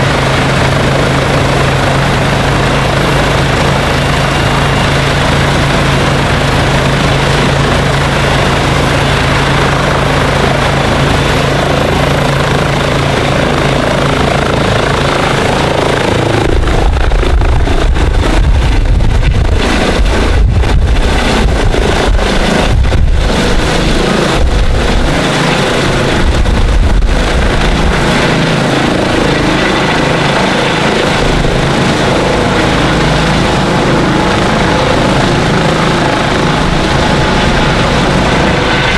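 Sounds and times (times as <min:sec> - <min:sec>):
helicopter rotor: 0:00.0 - 0:38.9
helicopter turbine whine: 0:00.0 - 0:38.9.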